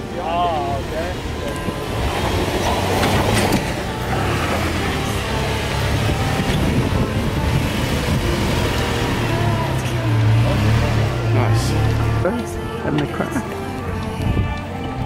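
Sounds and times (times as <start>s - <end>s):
engine low drone: 0.0s - 15.0s.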